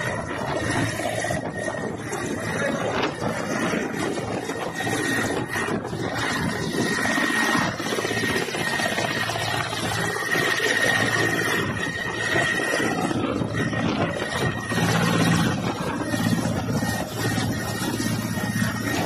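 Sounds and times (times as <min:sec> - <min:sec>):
helicopter engine and rotors: 0:00.0 - 0:19.0
turbine whine: 0:00.0 - 0:19.0.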